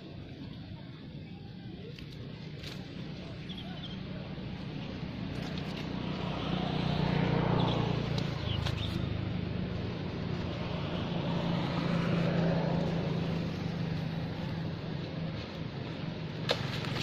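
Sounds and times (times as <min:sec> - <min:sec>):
passing vehicle engine hum: 0:00.0 - 0:17.0.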